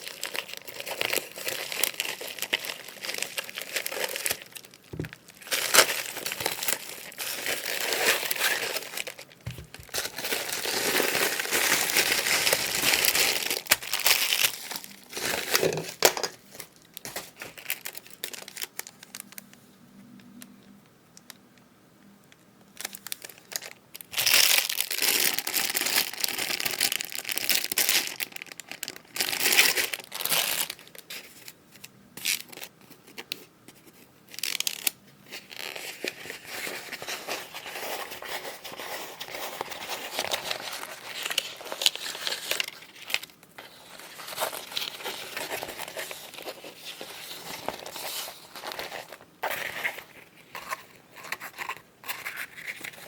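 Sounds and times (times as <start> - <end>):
packaging crinkling and tearing: 0.0 - 19.5, 22.8 - 53.0.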